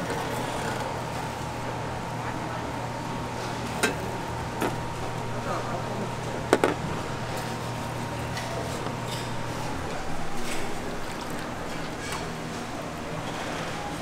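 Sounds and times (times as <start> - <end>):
low hum of kitchen equipment: 0.0 - 14.0.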